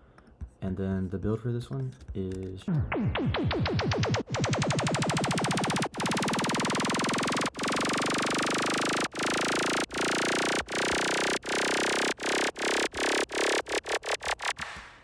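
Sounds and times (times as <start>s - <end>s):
stuttering buzzy synthesizer: 2.7s - 14.8s.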